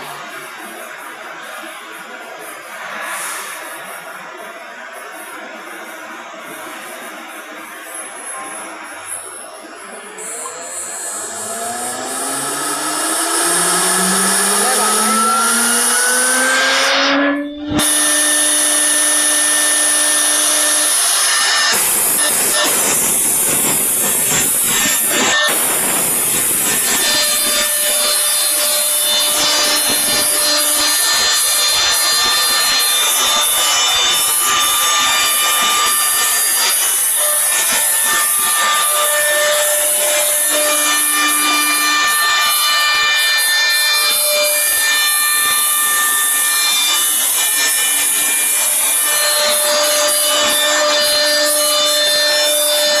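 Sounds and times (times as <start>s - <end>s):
router spindle cutting hiss: 8.4s - 53.0s.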